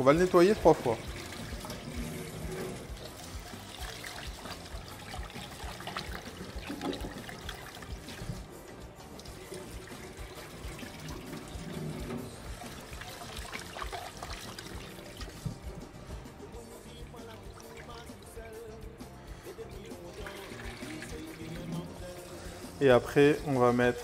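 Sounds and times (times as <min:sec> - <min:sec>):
water running from a tap: 0:00.0 - 0:16.2, 0:16.9 - 0:18.7, 0:19.6 - 0:24.0
water trickling in a saucepan: 0:00.2 - 0:16.0, 0:16.9 - 0:18.6, 0:19.5 - 0:24.0.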